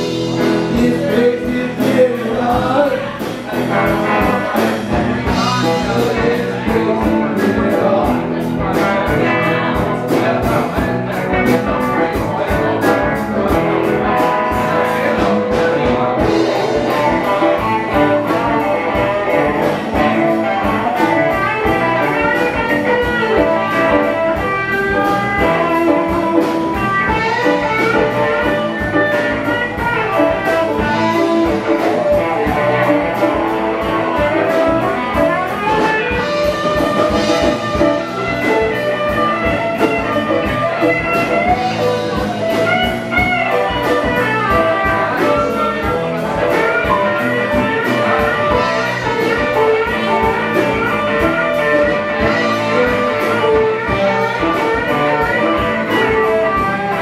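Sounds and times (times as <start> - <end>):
drums: 0.0 - 57.0
electric guitar: 0.0 - 57.0
live band playing: 0.0 - 57.0.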